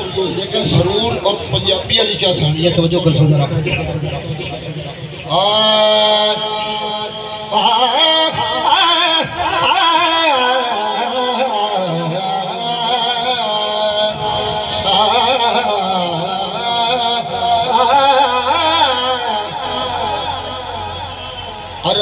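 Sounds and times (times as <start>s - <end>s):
man singing slow drawn-out notes: 3.6s - 22.0s.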